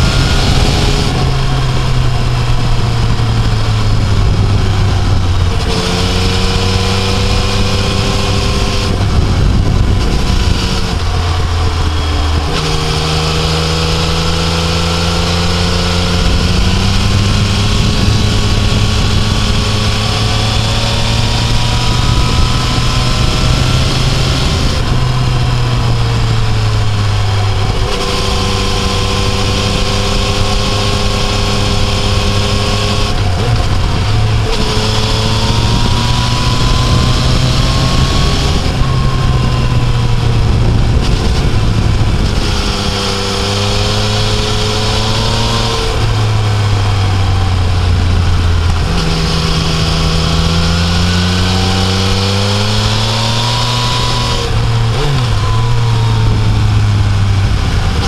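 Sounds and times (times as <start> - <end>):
motorcycle engine pulling uphill: 0.0 - 58.0
wind rushing: 0.0 - 58.0.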